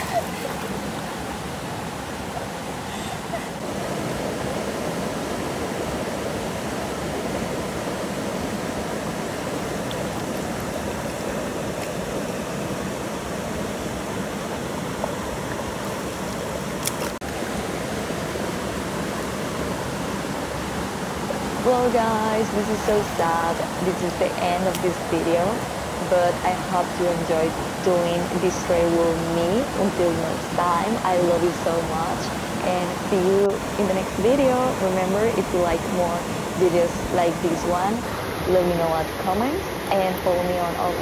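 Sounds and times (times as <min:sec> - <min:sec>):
flowing river water: 0:00.0 - 0:41.0.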